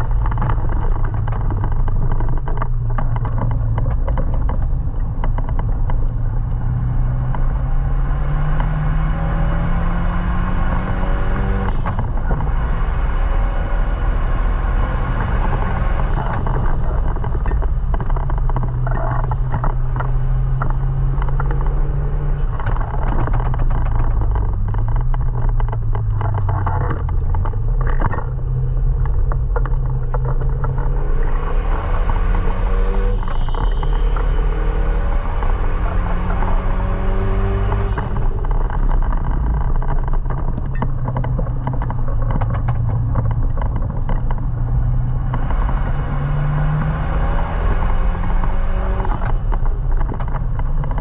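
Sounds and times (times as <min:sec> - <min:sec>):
car engine accelerating hard: 0:00.0 - 0:51.0.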